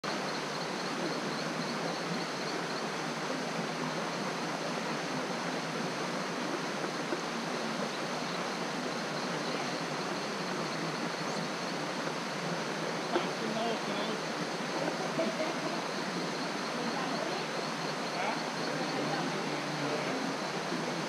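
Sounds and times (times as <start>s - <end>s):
river water rushing over rocks: 0.0s - 21.0s.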